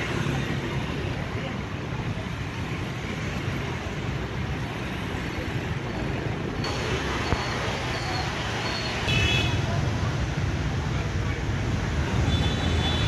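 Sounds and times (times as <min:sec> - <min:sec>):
motorbikes and scooters traffic: 0:00.0 - 0:13.0.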